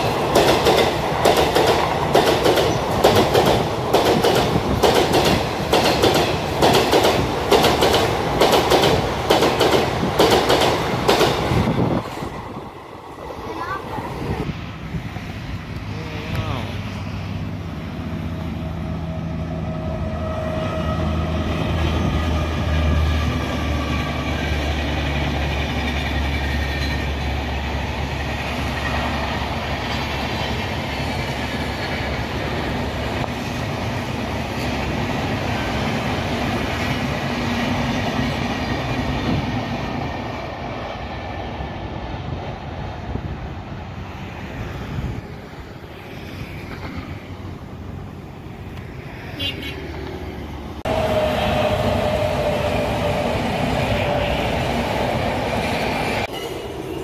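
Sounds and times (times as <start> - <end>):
pitched locomotive whine: 0.0 - 57.0
train wheels rumbling on rail: 0.0 - 57.0.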